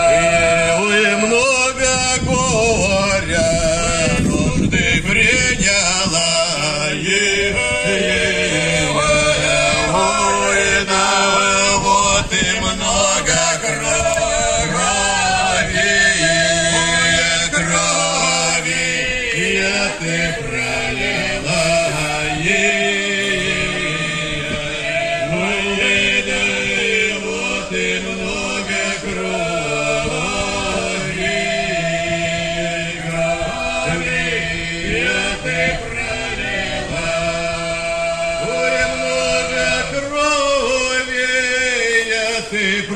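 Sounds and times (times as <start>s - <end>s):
male choir chanting: 0.0s - 42.9s.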